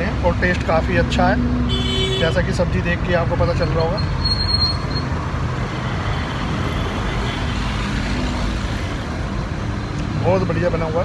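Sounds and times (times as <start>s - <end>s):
vehicles driving past: 0.0s - 11.0s.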